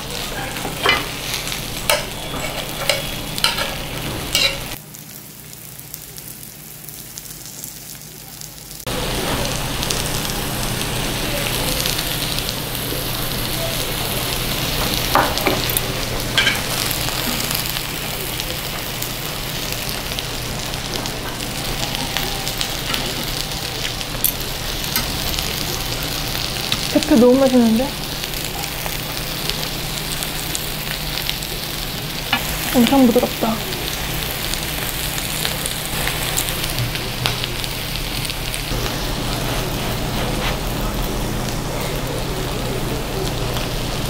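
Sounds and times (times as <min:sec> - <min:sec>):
meat sizzling on griddle: 0:00.0 - 0:44.0.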